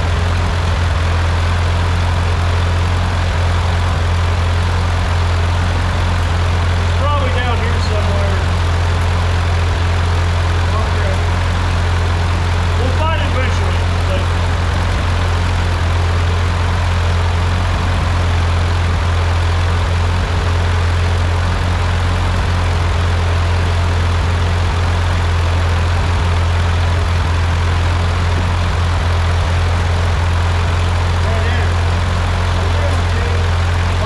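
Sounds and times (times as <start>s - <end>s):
tractor engine running steadily: 0.0s - 34.0s.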